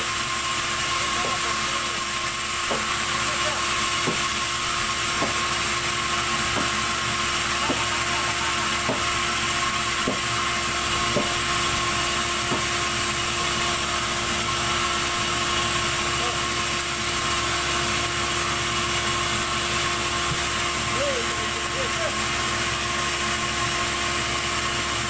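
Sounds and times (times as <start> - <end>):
band saw whine and hiss: 0.0 - 25.0.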